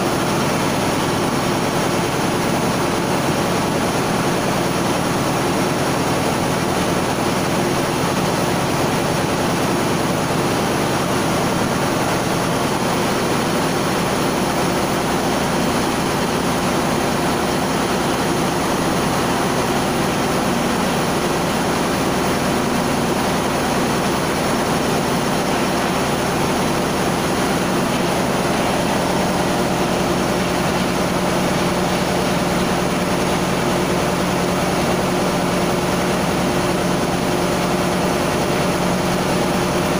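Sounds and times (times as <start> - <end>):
constant machinery hums: 0.0 - 39.9
engine-room machinery drone: 0.0 - 39.9.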